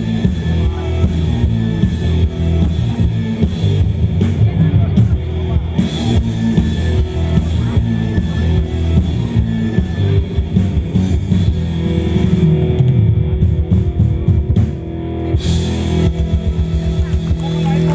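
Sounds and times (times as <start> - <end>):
drum kit beat: 0.0 - 17.9
electric guitars: 0.0 - 17.9.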